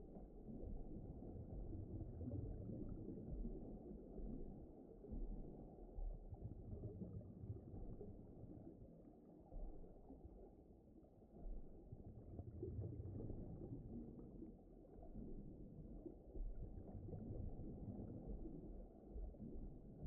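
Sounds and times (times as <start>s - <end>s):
deep underwater rumble: 0.0s - 20.0s.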